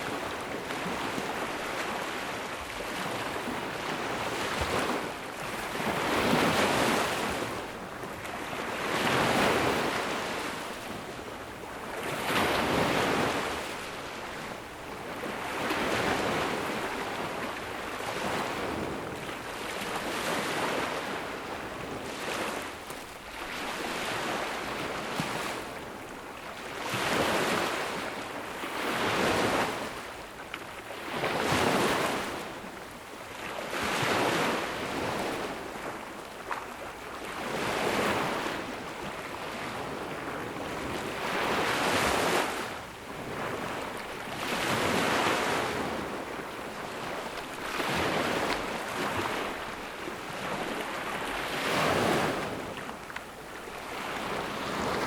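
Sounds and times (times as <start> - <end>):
ocean waves breaking on sand: 0.0 - 55.0.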